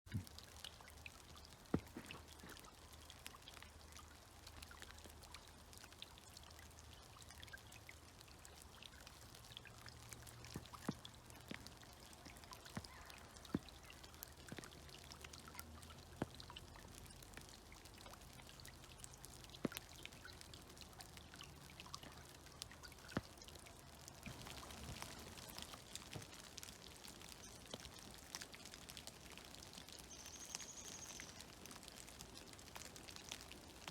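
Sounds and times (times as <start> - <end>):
faint creek trickling: 0.1 - 33.9
meltwater dripping from trees: 0.1 - 33.9.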